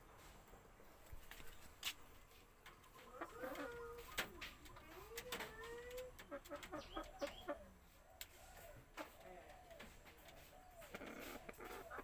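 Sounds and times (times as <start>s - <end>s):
chickens clucking: 0.2s - 12.0s.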